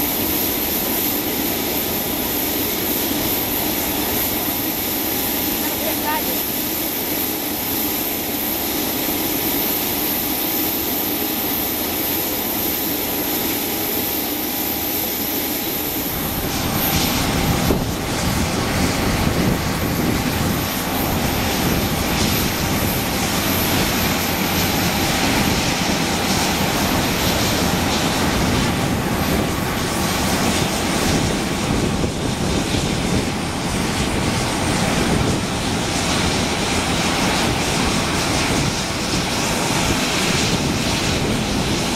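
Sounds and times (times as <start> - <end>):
turboprop engines running: 0.0 - 41.9.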